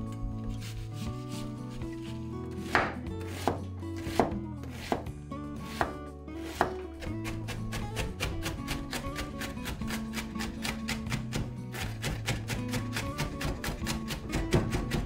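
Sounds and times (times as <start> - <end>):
knife chopping onion: 0.6 - 15.0.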